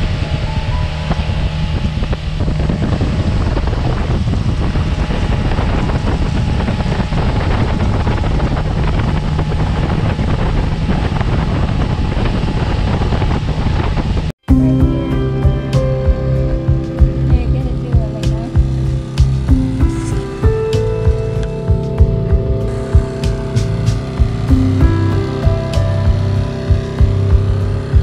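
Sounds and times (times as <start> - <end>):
motorboat engine drone: 0.0 - 28.0
wind buffeting microphone: 0.0 - 28.0.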